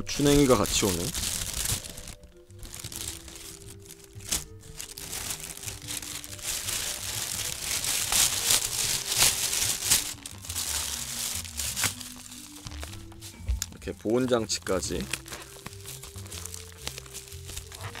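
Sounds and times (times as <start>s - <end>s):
plastic carrier bag rustling: 0.0s - 13.8s, 14.6s - 18.0s.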